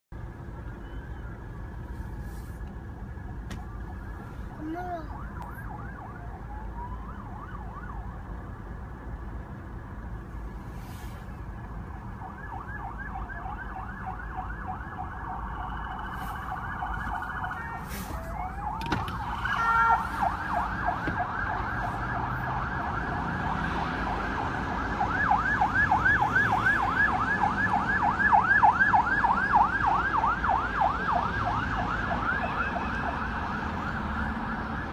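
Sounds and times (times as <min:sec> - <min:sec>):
traffic rumble: 0:00.1 - 0:34.9
police sirens yelping: 0:00.3 - 0:08.5, 0:11.8 - 0:34.9.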